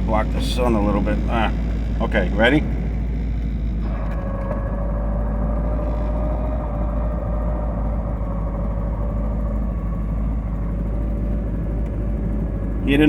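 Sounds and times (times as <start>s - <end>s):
car engine idling: 0.0s - 13.0s
gearbox whining: 0.0s - 13.0s.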